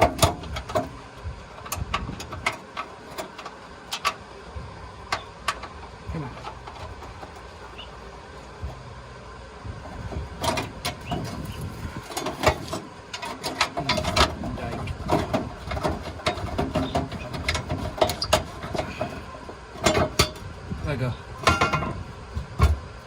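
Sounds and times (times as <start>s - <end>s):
exhaust pipe clanking and rattling: 0.0s - 23.0s.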